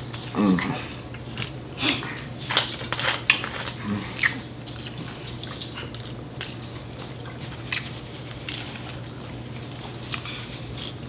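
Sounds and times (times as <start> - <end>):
faint steady hum: 0.0 - 11.0
people chewing chicken wings: 0.0 - 11.0.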